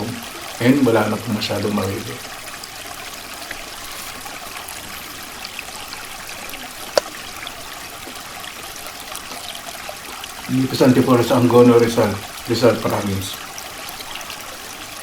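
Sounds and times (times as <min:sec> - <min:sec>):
stream water trickling: 0:00.0 - 0:15.0.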